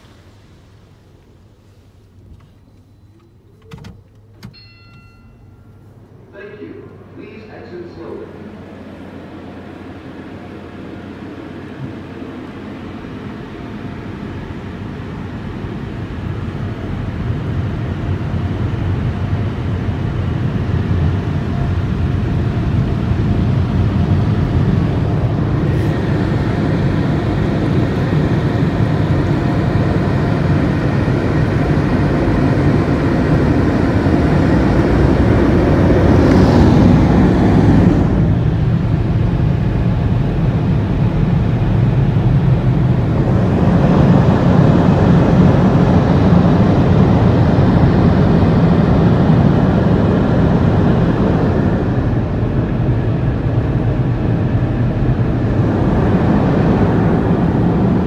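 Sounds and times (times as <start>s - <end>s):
car wash air dryer blowers: 0.0s - 5.1s, 5.7s - 58.0s.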